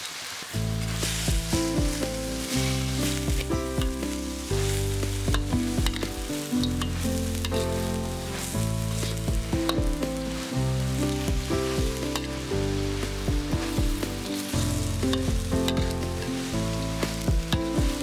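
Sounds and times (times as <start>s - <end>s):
food sizzling in a hot pan: 0.0s - 18.0s.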